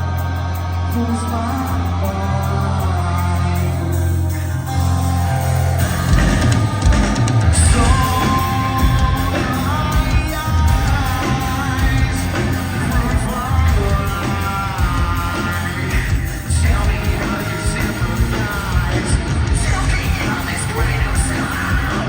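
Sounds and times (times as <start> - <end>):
drums: 0.0 - 22.0
live rock band playing: 0.0 - 22.0
person singing lead vocal: 0.0 - 22.0.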